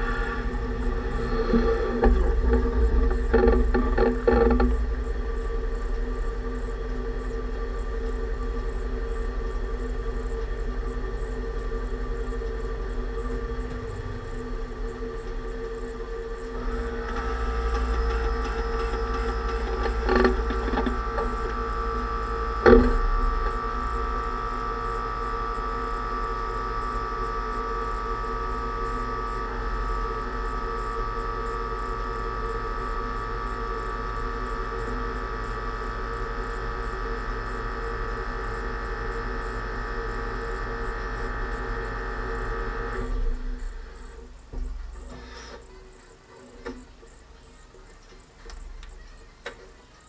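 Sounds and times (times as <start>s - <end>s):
differential whine: 0.0s - 50.0s.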